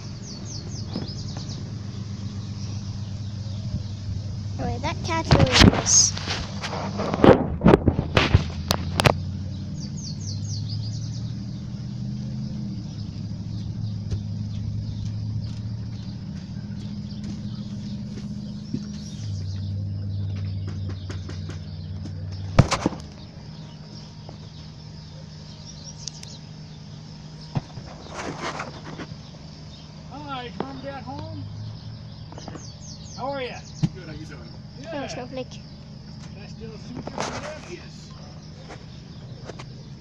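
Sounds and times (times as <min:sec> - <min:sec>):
bird chirps: 0:00.0 - 0:07.1, 0:08.0 - 0:40.0
low motor hum: 0:00.0 - 0:40.0.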